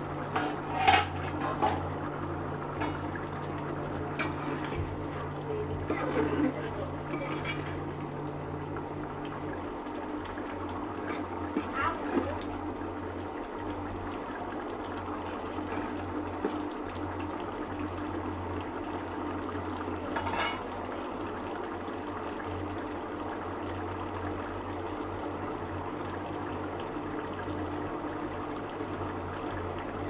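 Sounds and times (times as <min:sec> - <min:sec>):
curry bubbling in a pot: 0:00.0 - 0:30.0.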